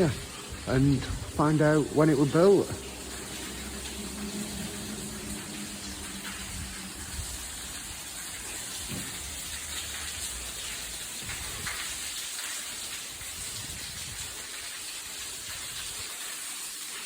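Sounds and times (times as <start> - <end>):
falling and dripping water: 0.0 - 17.0.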